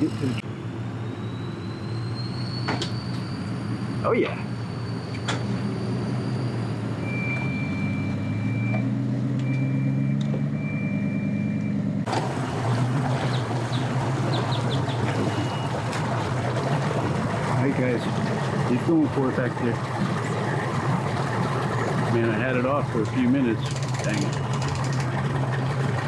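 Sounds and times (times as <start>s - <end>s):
engine running at low speed: 0.0s - 26.0s.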